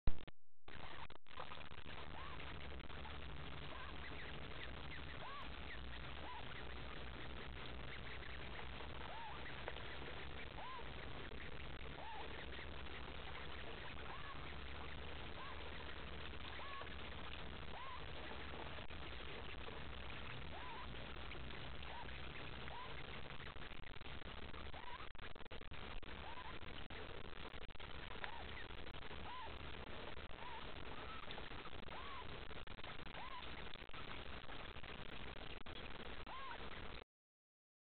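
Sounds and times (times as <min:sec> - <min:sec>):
ducklings peeping: 0:00.9 - 0:36.8.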